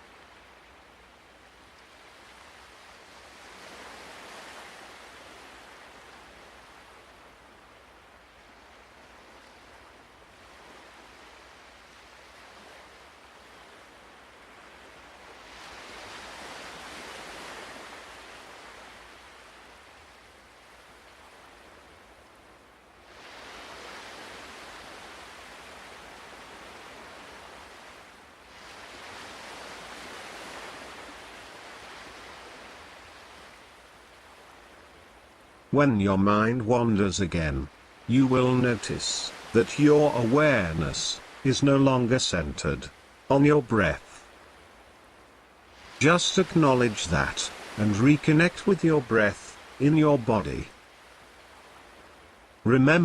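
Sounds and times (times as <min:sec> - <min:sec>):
ocean waves washing on shore: 0:00.0 - 0:53.0.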